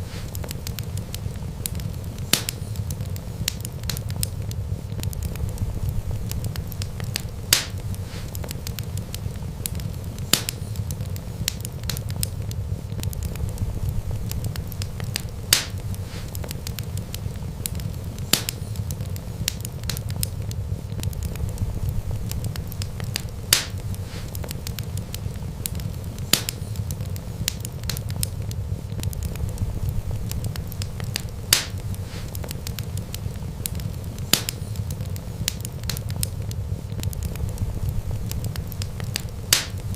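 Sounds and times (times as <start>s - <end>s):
sharp pops from fire: 0.0s - 39.9s
wood fire crackling: 0.0s - 39.9s.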